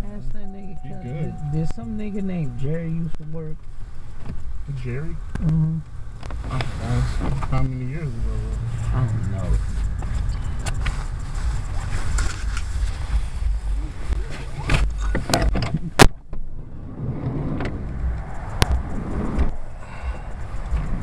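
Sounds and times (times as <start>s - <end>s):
car cabin engine and road rumble: 0.0s - 21.0s.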